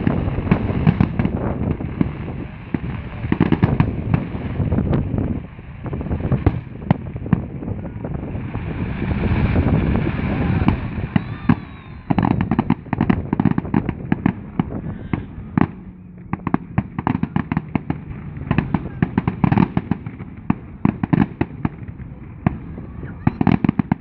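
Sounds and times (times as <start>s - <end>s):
fireworks bangs: 0.0s - 24.0s
rapid crackling fireworks: 0.0s - 24.0s.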